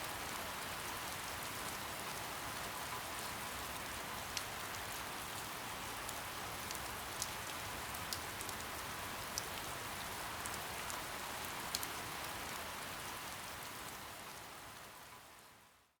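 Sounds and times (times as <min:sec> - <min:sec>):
raindrops ticking on a surface: 0:00.0 - 0:15.5
steady soft rain: 0:00.0 - 0:16.0.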